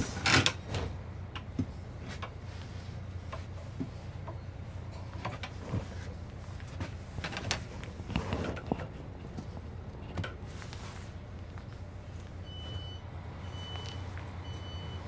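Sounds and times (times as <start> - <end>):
diesel railcar rumble: 0.0 - 15.0.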